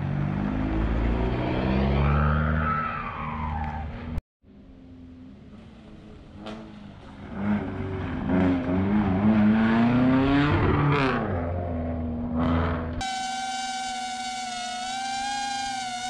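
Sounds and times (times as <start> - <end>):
rally car engine passing by: 0.0 - 4.1, 5.0 - 16.0.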